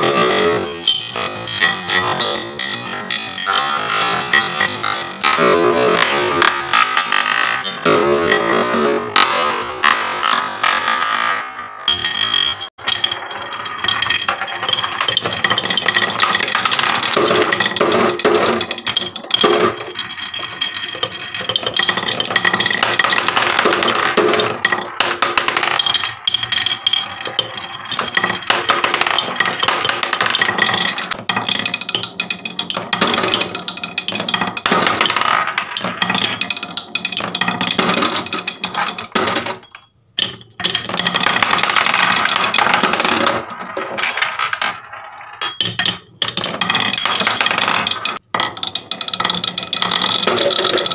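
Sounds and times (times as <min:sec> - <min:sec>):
marbles clacking together: 0:00.0 - 0:50.9
marbles rolling on wooden slopes: 0:00.0 - 0:50.9.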